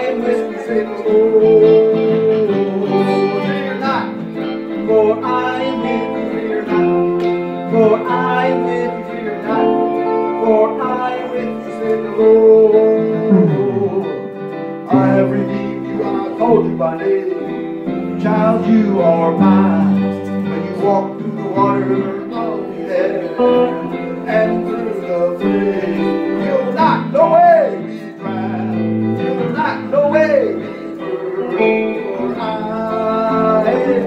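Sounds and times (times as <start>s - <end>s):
electric guitar: 0.0s - 34.0s
keyboard playing slow song: 0.0s - 34.0s
man singing: 0.0s - 34.0s.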